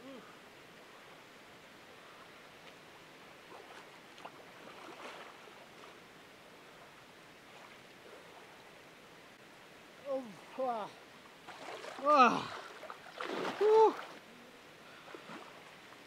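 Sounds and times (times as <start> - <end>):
soft hiss: 0.0 - 16.0.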